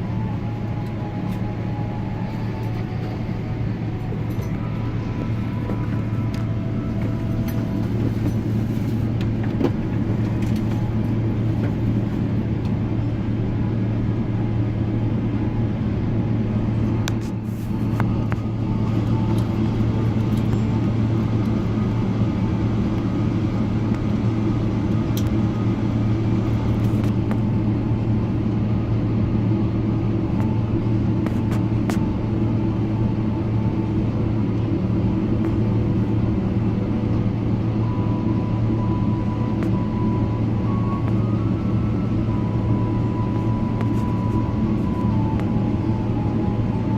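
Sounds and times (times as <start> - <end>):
airplane cabin rumble and hum: 0.0 - 46.9.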